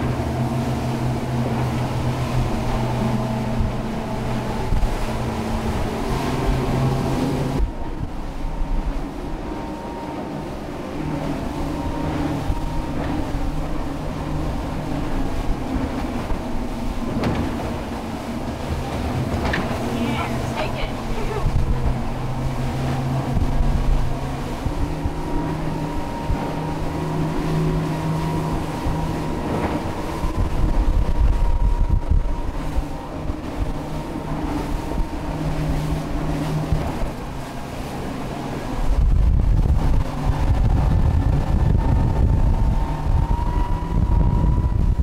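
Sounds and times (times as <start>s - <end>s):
motorboat engine hum: 0.0s - 45.0s
rushing water: 0.0s - 45.0s
wind: 0.0s - 45.0s.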